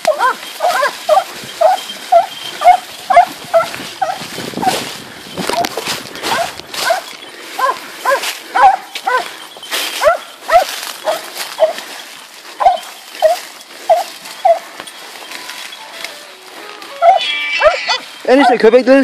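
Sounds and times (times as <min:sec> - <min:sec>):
hunting dogs barking: 0:00.0 - 0:16.1, 0:16.9 - 0:18.7.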